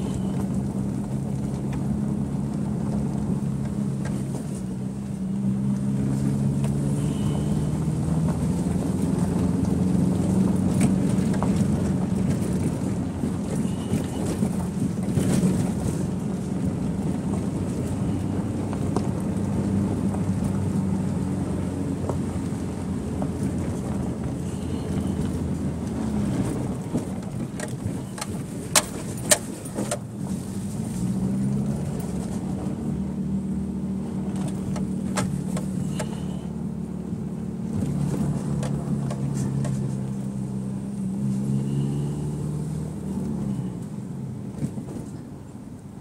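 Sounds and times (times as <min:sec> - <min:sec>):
car engine pulling at low speed: 0:00.0 - 0:46.0.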